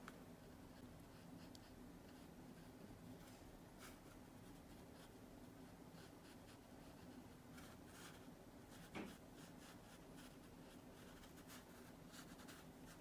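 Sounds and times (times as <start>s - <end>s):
low steady hum: 0.0s - 13.0s
paintbrush dabbing on paper: 0.4s - 13.0s.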